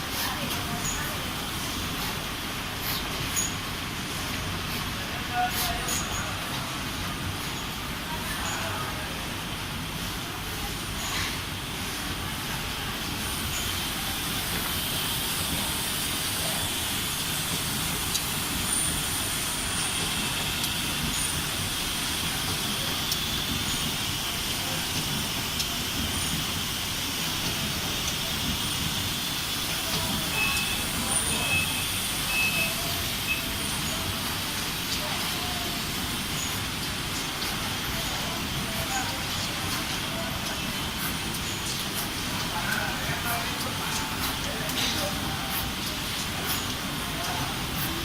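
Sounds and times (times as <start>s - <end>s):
screen printing machine hiss: 0.0s - 48.0s.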